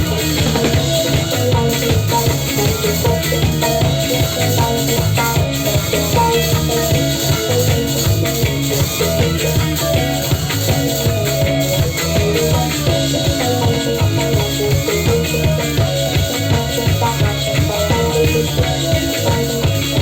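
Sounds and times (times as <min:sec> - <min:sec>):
bass guitar: 0:00.0 - 0:20.0
drum kit: 0:00.0 - 0:20.0
electric guitar: 0:00.0 - 0:20.0
hand percussion: 0:00.0 - 0:20.0
keyboards: 0:00.0 - 0:20.0.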